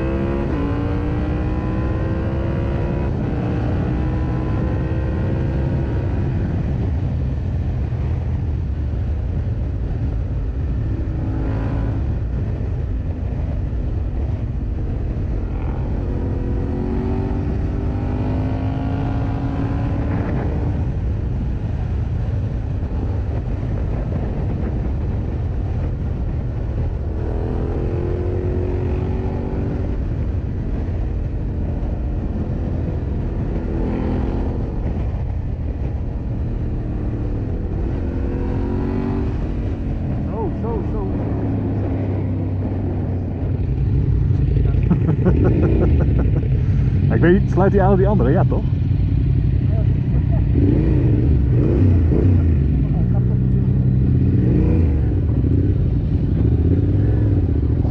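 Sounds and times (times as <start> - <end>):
steady low rumble: 5.4 - 29.1, 29.7 - 57.9.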